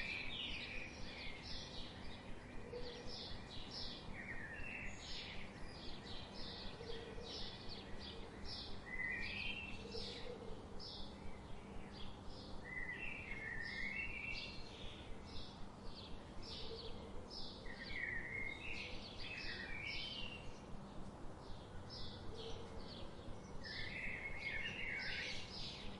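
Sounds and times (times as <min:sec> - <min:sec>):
songbirds chirping: 0:00.0 - 0:25.9
steady background hiss: 0:00.0 - 0:25.9.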